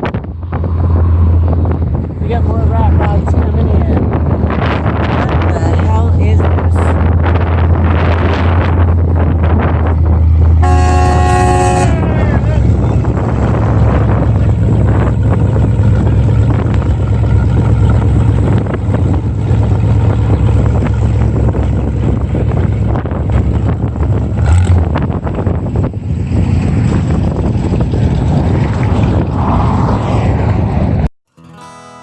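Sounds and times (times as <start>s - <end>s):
car engine idling: 0.0s - 28.6s
wind buffeting microphone: 0.0s - 31.1s.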